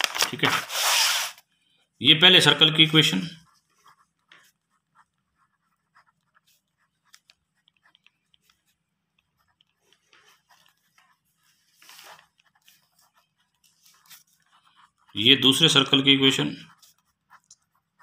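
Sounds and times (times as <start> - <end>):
soft paper rustle: 0.0 - 1.8, 2.9 - 17.9
pen writing on paper: 3.0 - 18.0.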